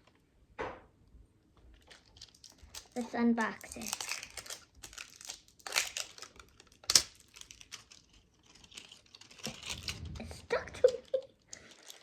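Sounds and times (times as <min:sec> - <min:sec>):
packaging rustling: 0:01.7 - 0:12.0
packaging ripping: 0:01.8 - 0:12.0.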